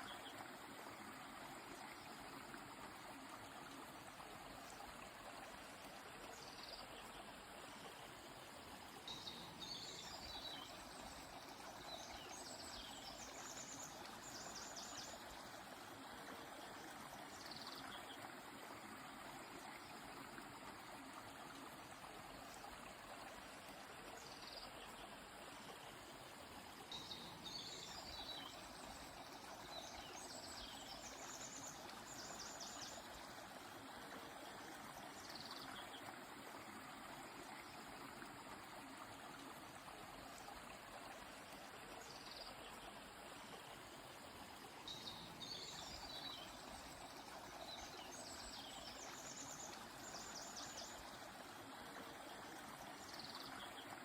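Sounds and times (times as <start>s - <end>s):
flowing river: 0.0s - 54.0s.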